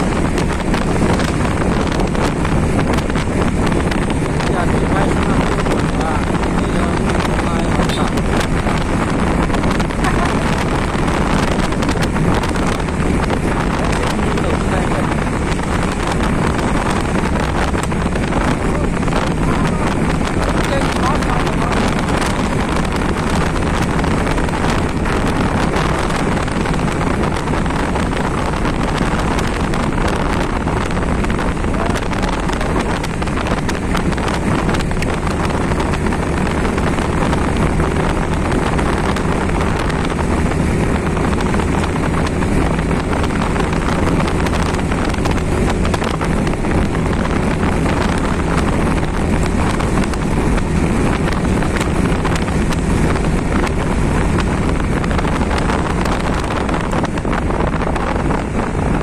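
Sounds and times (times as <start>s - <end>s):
motorbike engine: 0.0s - 59.0s
road noise: 0.0s - 59.0s
wind rushing on microphone: 0.0s - 59.0s.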